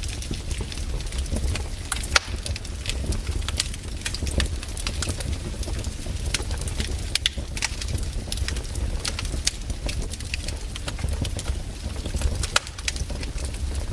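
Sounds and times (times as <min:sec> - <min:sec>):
campfire crackling and popping: 0:00.0 - 0:13.9
low rumble of burning fire: 0:00.0 - 0:13.9.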